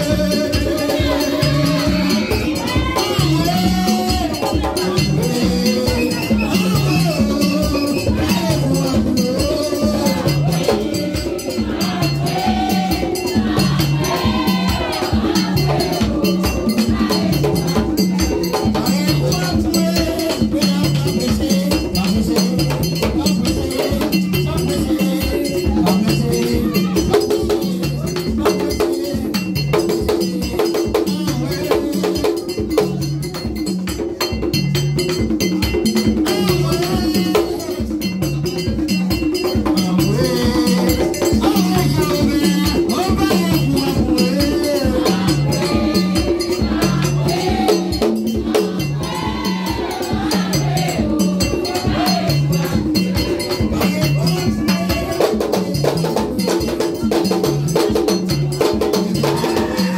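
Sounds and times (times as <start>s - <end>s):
person singing: 0.0s - 33.0s, 36.0s - 59.9s
bell and rattle percussion: 0.0s - 59.9s
fast drumming: 0.0s - 59.9s.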